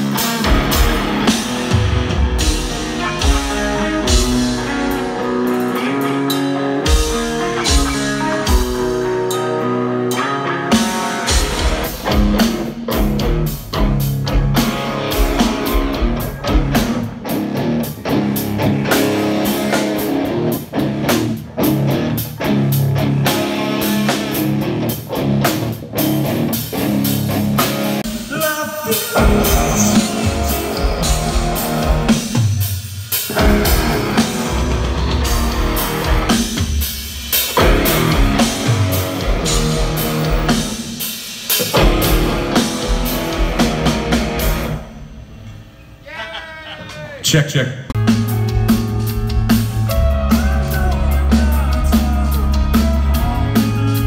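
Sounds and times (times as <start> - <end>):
bass guitar: 0.0 - 28.4, 29.1 - 45.5, 48.0 - 54.0
drum kit with cymbals: 0.0 - 46.0, 48.0 - 54.0
electric guitars: 0.0 - 46.1, 47.9 - 54.0.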